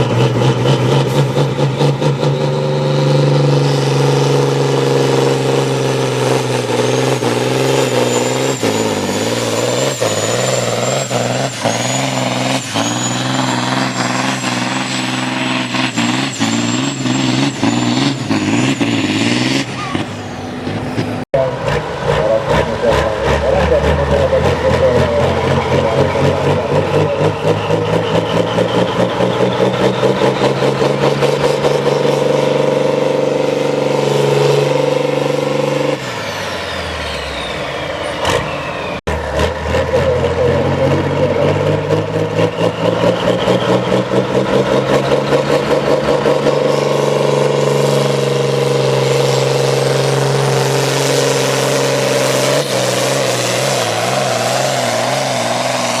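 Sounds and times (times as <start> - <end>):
tractor engine running hard: 0.0 - 56.0.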